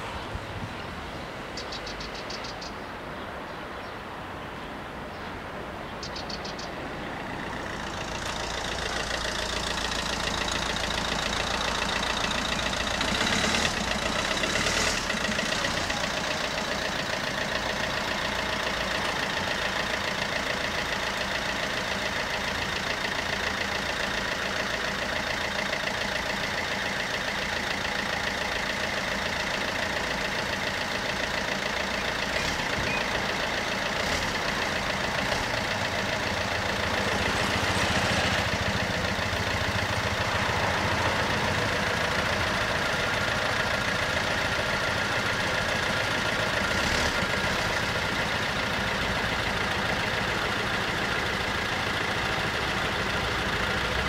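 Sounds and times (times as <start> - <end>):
cars idling: 0.0 - 3.7, 4.8 - 54.0.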